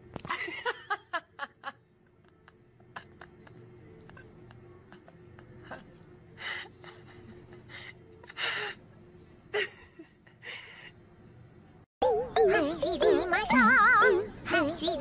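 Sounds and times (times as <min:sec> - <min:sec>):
faint room tone hum: 0:00.0 - 0:15.0.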